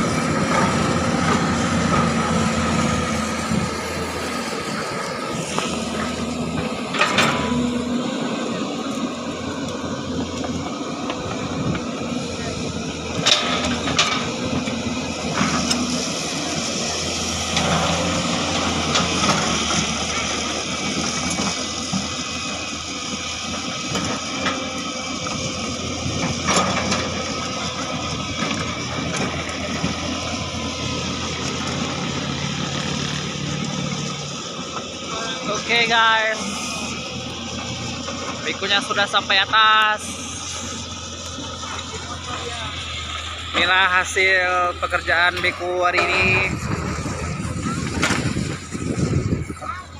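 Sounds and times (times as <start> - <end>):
excavator diesel engine under load: 0.0 - 49.9.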